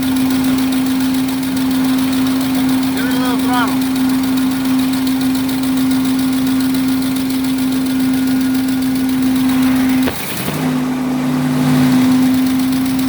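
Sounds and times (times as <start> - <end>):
engine running: 0.0 - 13.0
steady whine: 0.0 - 13.0.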